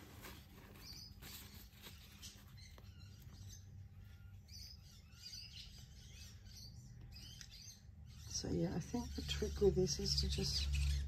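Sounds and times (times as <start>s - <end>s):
faint bird chirps: 0.5s - 11.0s.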